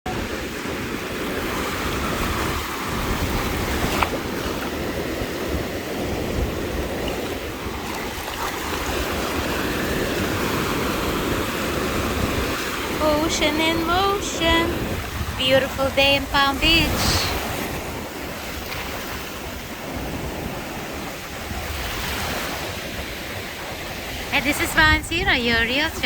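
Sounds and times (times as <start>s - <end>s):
surf washing onto beach: 0.1s - 26.0s
wind rumbling on microphone: 0.1s - 26.0s.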